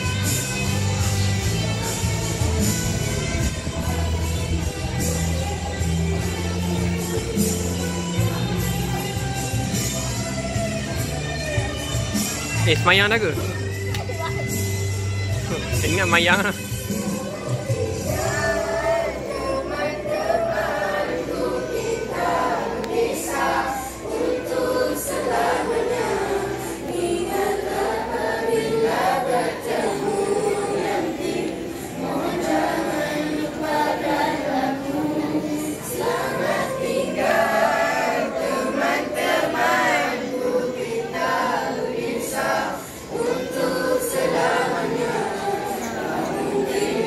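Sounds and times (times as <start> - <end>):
children's choir singing: 0.0 - 12.4, 16.2 - 47.0.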